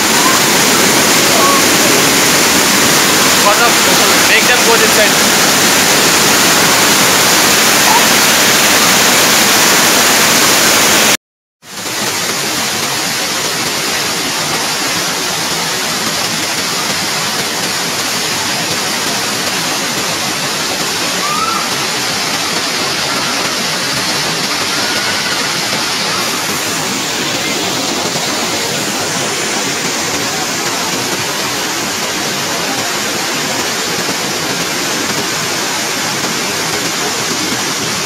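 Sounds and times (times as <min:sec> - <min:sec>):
waterfall pouring over rock: 0:00.0 - 0:38.0.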